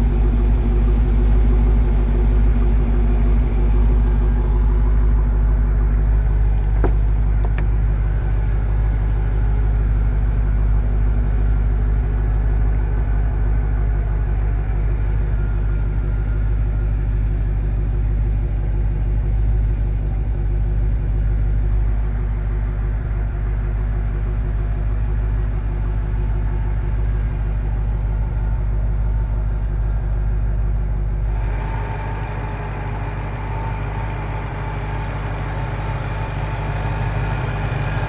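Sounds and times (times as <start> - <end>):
car engine rumbling at low revs: 0.0 - 38.0.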